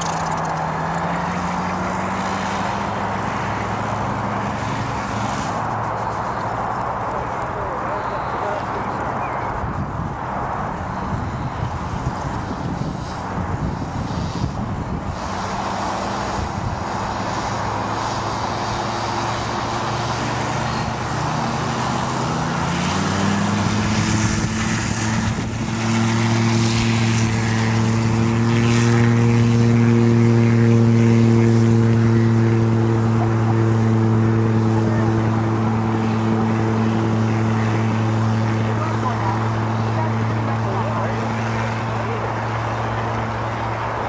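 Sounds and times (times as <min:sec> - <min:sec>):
propeller engine running: 0:00.0 - 0:44.0.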